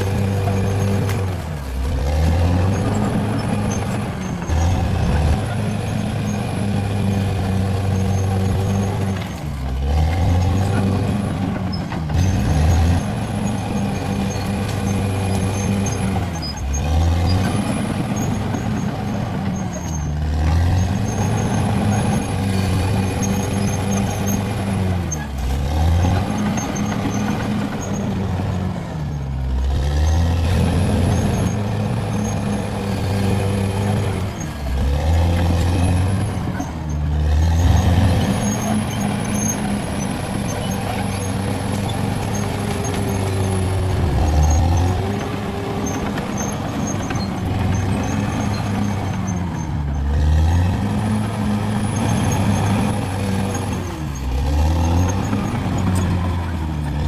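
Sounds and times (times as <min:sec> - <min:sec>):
bulldozer diesel engine labouring: 0:00.0 - 0:57.0.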